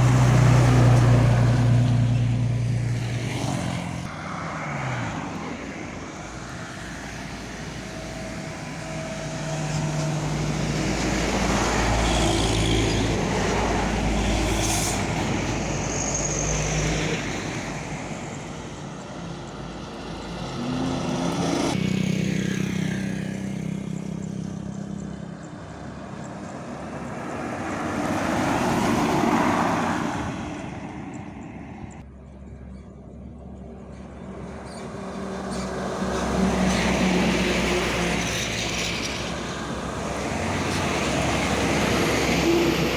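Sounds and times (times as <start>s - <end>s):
heavy trucks passing: 0.0s - 32.1s, 33.7s - 42.9s.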